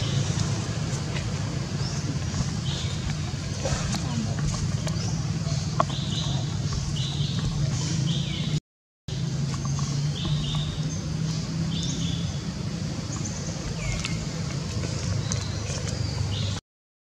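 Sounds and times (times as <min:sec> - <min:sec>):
passing traffic hum: 0:00.0 - 0:16.6.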